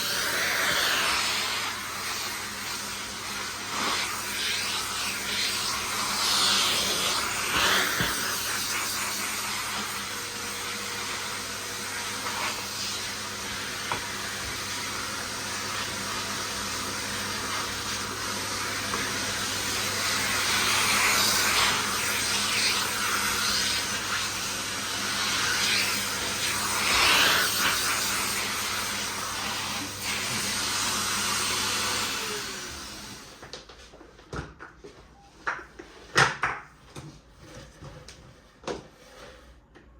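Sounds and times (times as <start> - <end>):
vacuum cleaner running: 0.0 - 33.7.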